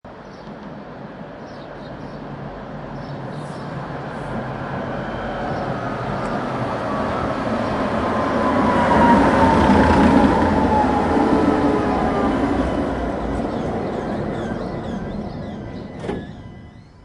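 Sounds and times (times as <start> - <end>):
tram rumble: 0.1 - 17.0.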